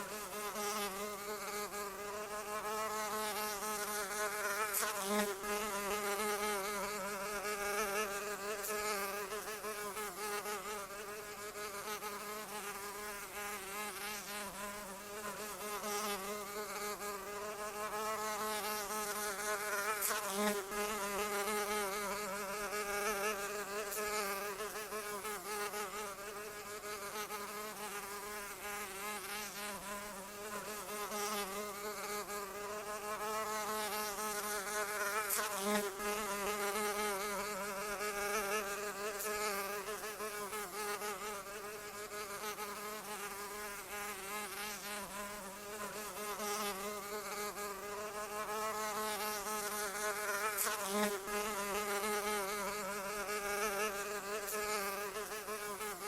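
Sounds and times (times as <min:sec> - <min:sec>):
insect wings buzzing: 0:00.0 - 0:56.0.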